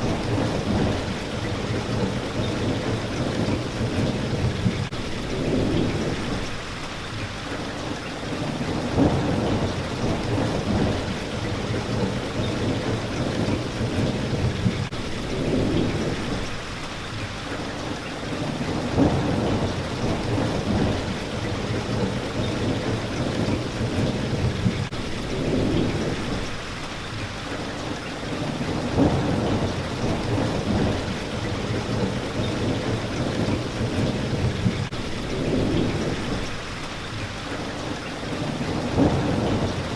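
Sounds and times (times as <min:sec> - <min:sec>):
low thunder rumbles: 0:00.0 - 0:06.6, 0:08.3 - 0:16.6, 0:18.3 - 0:26.6, 0:28.3 - 0:36.8, 0:38.3 - 0:39.9
rain hitting a window: 0:00.0 - 0:39.9.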